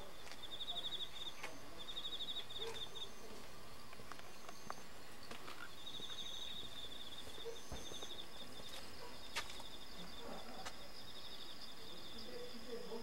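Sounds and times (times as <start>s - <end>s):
insects trilling: 0.0s - 13.0s
thin high insect chirp: 0.1s - 13.0s.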